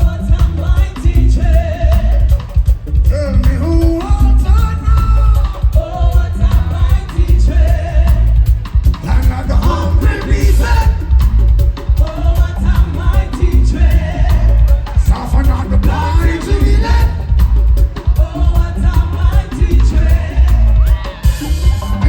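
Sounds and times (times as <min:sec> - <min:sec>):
person singing: 0:00.0 - 0:22.0
reggae band playing: 0:00.0 - 0:22.0.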